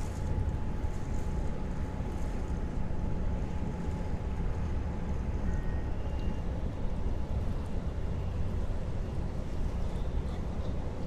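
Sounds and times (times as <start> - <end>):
ship low rumble: 0.0 - 11.0.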